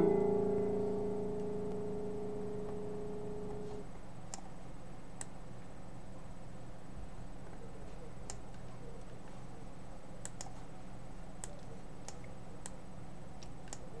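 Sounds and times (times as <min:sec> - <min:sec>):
faint high-pitched whine: 0:00.0 - 0:14.0
steady low hum: 0:00.0 - 0:14.0.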